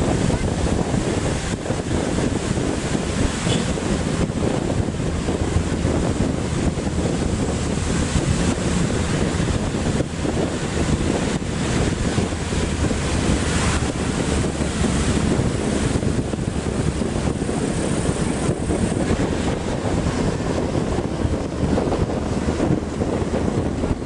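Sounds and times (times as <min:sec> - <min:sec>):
bus rumbling on road: 0:00.0 - 0:24.0
wind on microphone: 0:00.0 - 0:24.0.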